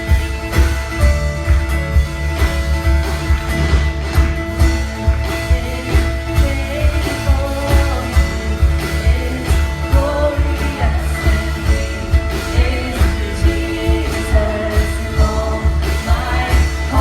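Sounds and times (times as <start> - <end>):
worship band playing: 0.0 - 17.0.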